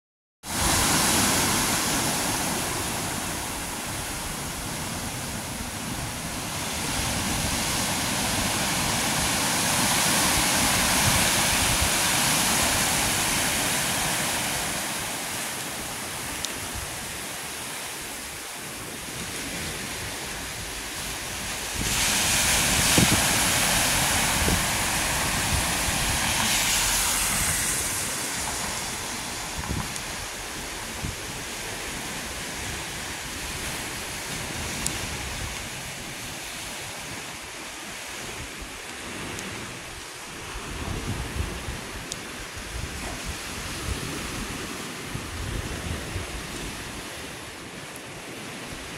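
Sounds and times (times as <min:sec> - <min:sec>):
gusty wind on microphone: 0:00.4 - 0:48.9
sea surf rushing: 0:00.4 - 0:48.9.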